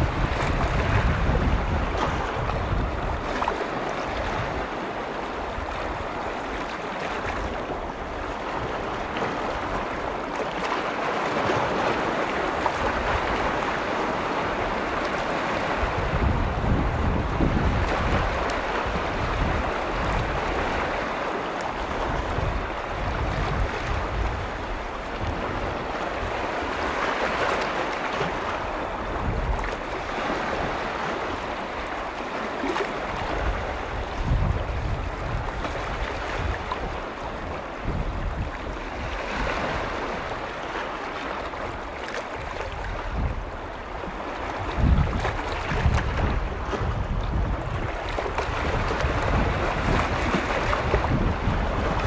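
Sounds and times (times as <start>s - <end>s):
lake waves washing in: 0.0s - 52.0s
wind buffeting microphone: 0.0s - 52.0s.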